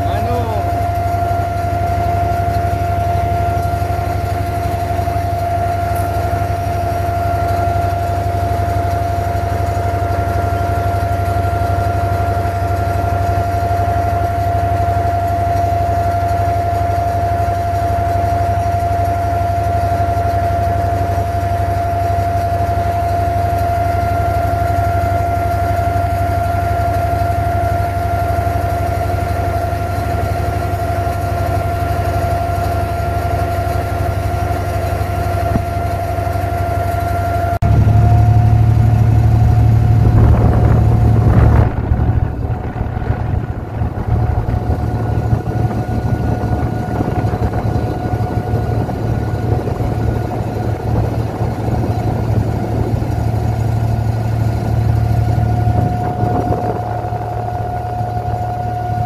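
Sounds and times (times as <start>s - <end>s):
boat diesel engine droning: 0.0s - 59.0s.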